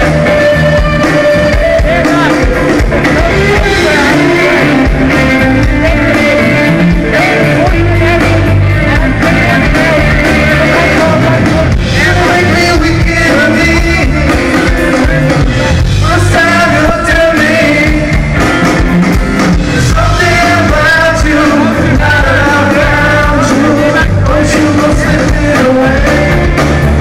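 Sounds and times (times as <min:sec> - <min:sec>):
bass guitar: 0:00.0 - 0:27.0
electric guitars: 0:00.0 - 0:27.0.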